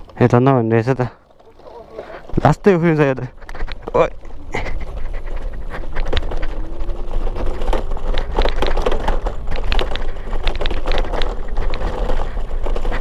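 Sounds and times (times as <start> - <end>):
bike rattling clicks: 0.0 - 13.0
bike riding rumble: 0.0 - 13.0.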